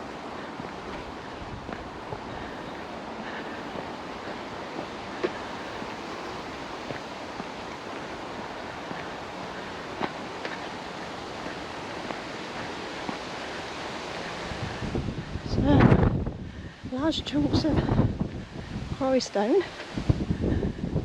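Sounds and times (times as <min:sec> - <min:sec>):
wind blowing over microphone: 0:00.0 - 0:21.0.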